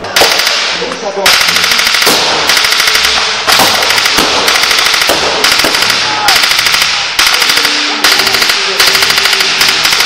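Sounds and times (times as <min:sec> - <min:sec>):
automatic gunfire bursts: 0:00.2 - 0:10.0.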